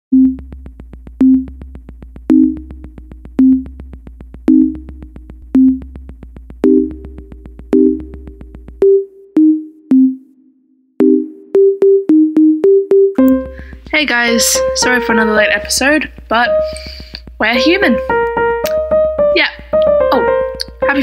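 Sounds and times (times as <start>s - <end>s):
ticking drum-machine beat: 0.1s - 10.3s, 11.0s - 21.0s
low bass: 0.1s - 10.4s, 11.0s - 21.0s
synthesizer notes: 0.1s - 21.0s.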